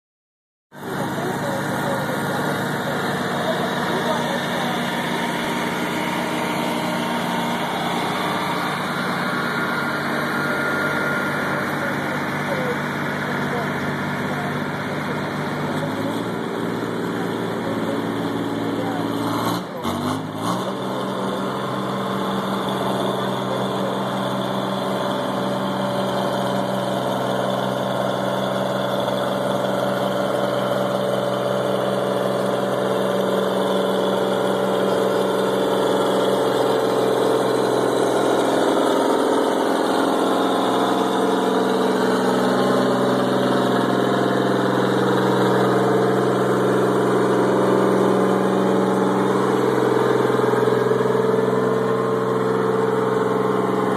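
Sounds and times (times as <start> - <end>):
diesel tractor engine under load: 0.7 - 53.9.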